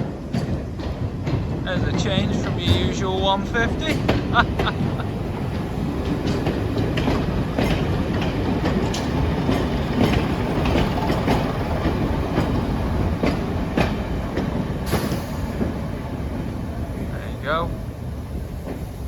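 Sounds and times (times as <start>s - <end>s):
train rumble: 0.0s - 19.0s
wheels clicking over rail joints: 0.0s - 19.0s.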